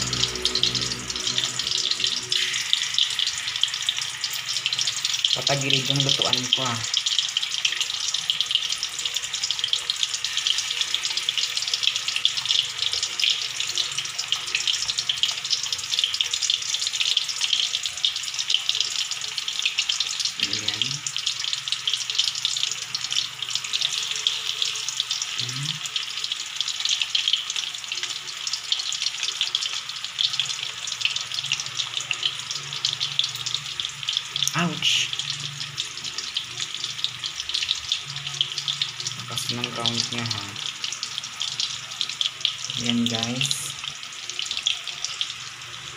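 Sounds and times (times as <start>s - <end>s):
meatballs sizzling in oil: 0.0s - 45.9s.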